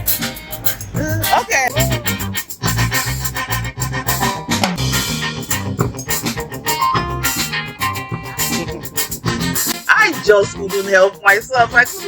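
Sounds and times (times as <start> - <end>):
drum kit beat: 0.0 - 12.0
guitar: 0.0 - 12.0
live band playing upbeat music: 0.0 - 12.0.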